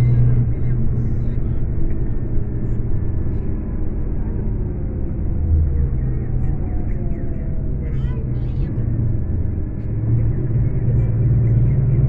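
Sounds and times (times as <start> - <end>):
coach engine drone: 0.0 - 12.0
road noise: 0.0 - 12.0.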